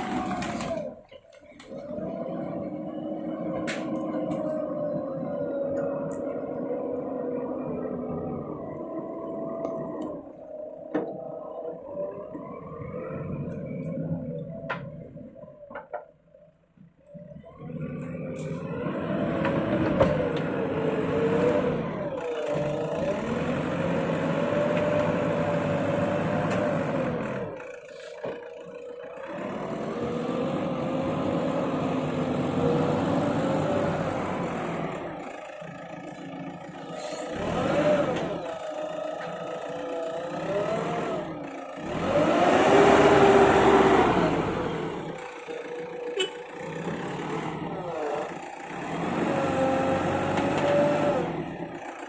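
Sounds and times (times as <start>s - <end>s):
excavator diesel engine revving: 0.0s - 15.7s, 17.0s - 52.0s.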